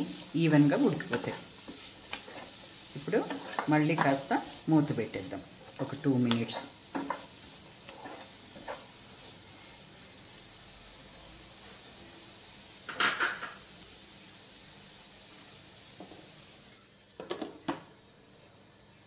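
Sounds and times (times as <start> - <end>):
vegetables sizzling in a frying pan: 0.0 - 18.1.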